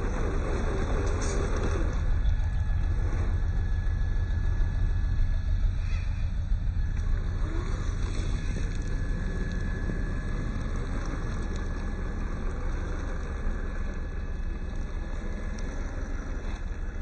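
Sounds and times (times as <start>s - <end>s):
electric motor whining faintly: 0.0s - 17.0s
low rumble: 0.0s - 17.0s.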